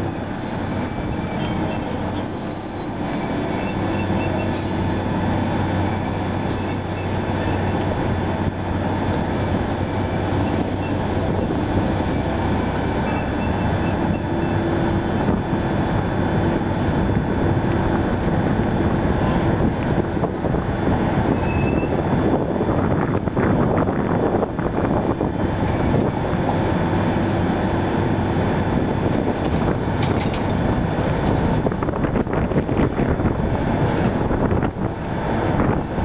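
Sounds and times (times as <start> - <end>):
crane engine humming: 0.0 - 36.0.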